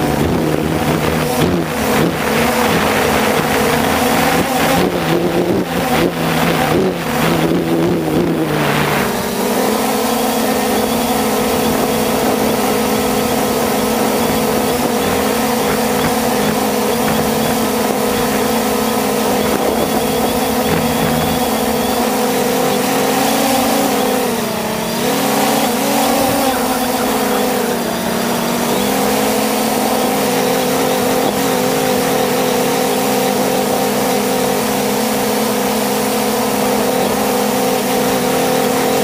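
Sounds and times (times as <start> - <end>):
drone propellers droning: 0.0 - 39.0.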